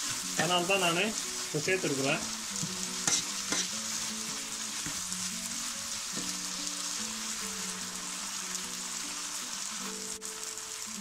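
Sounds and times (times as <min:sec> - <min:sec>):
soft background music: 0:00.0 - 0:11.0
vegetables sizzling in a frying pan: 0:00.0 - 0:11.0.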